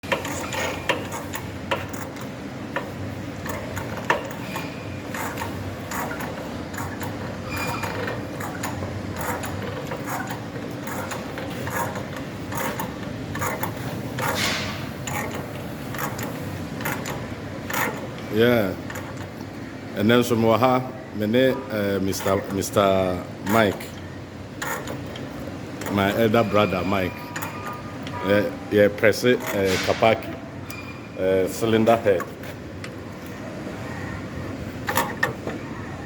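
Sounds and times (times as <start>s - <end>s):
mechanical clicking and knocking: 0.0s - 20.4s, 21.4s - 30.9s, 34.6s - 35.8s
steady background hum: 0.0s - 36.0s.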